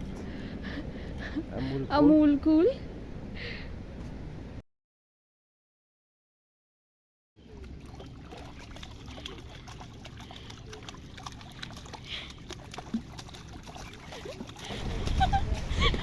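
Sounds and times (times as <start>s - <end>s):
outdoor background noise: 0.0s - 4.6s, 7.4s - 16.0s.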